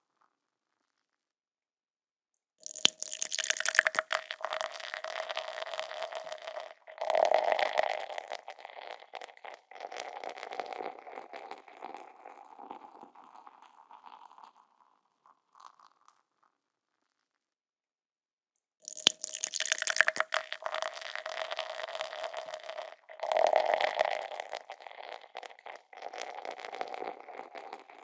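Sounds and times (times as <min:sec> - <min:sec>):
beer pouring into a glass: 0:02.6 - 0:16.2, 0:18.9 - 0:28.0.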